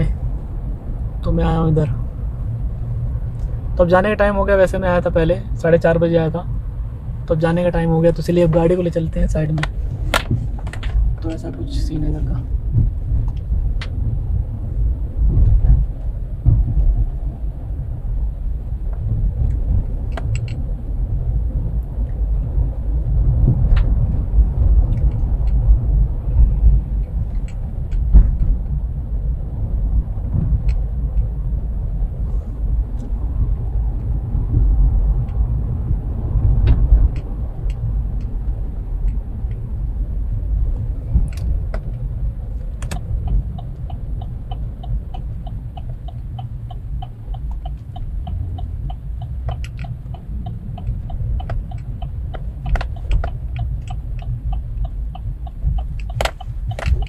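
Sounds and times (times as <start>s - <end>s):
car driving low rumble: 0.0s - 57.0s.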